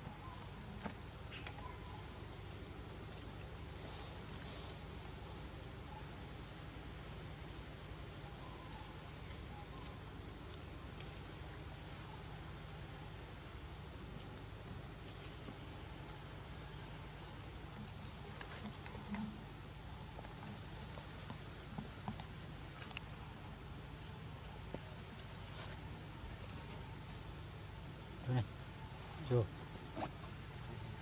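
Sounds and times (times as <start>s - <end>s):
insects droning: 0.0s - 31.0s
low steady rumble: 0.0s - 31.0s.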